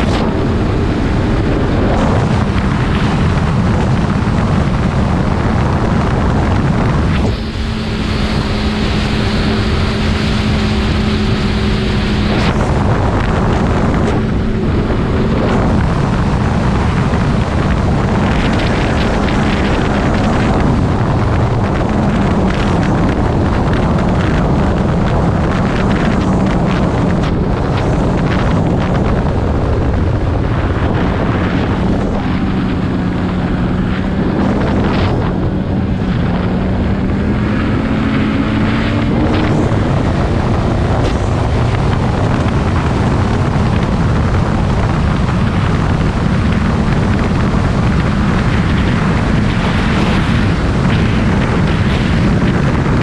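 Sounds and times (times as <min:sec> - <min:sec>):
snowmobile engine running: 0:00.0 - 0:53.0
wind noise on microphone: 0:00.0 - 0:53.0.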